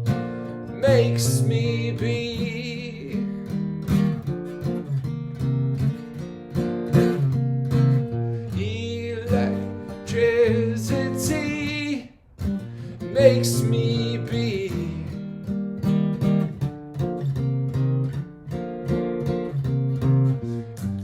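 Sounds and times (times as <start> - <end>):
guitar lead melody: 0.0 - 21.0
strummed acoustic guitar loop: 0.0 - 21.0.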